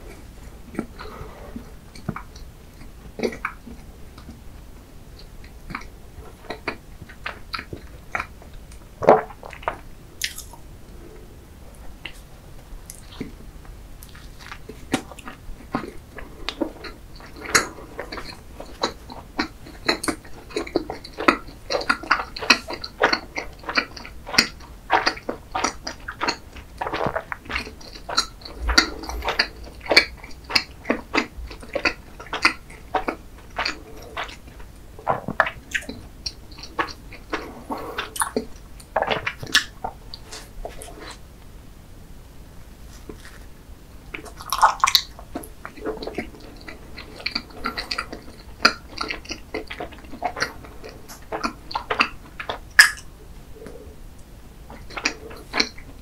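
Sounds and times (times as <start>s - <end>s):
wet chewing and mouth sounds: 0.0s - 41.2s, 42.8s - 56.0s.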